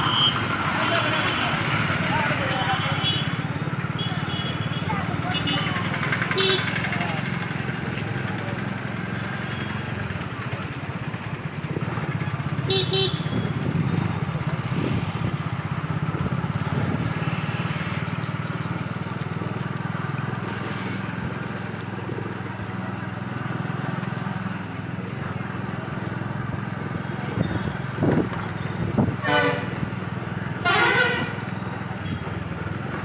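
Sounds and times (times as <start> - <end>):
bus engines droning: 0.0 - 33.0.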